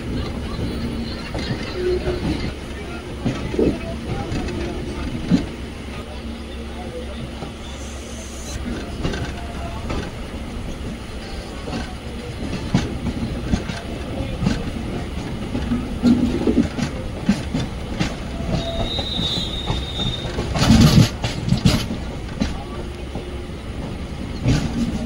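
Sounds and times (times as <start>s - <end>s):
passenger train rumbling on track: 0.0s - 25.0s.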